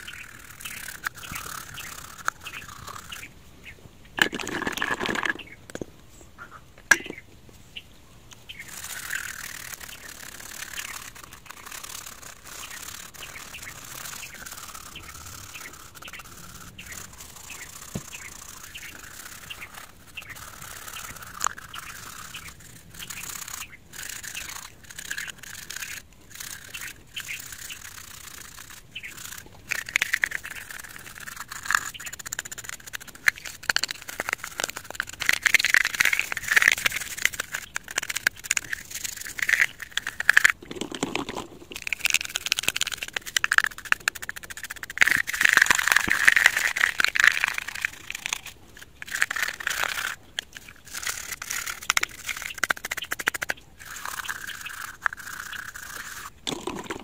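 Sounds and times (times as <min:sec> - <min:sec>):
toothbrush scrubbing plastic: 0:00.0 - 0:03.3, 0:04.2 - 0:05.6, 0:08.5 - 0:57.0.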